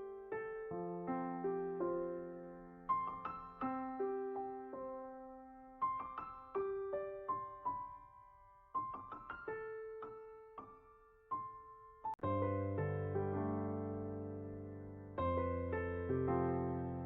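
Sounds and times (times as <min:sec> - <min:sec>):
slow solo piano melody: 0:00.0 - 0:17.0.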